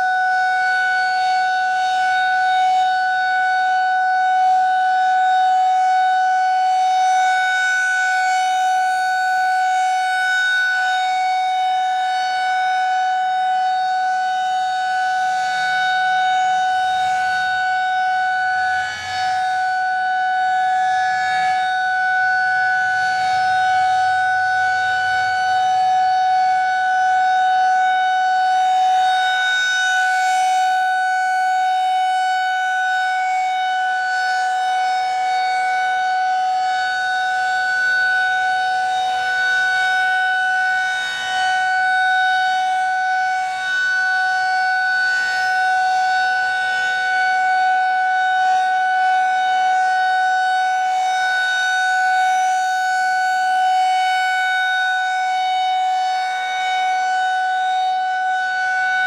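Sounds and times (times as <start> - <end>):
rotating siren steady tone: 0.0 - 59.0.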